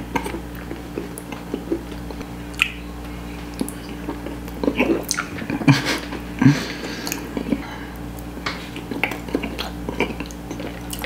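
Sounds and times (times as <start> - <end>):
wet chewing and lip smacking: 0.0 - 5.7, 6.9 - 11.0
finger licking: 0.2 - 2.8, 3.5 - 11.0.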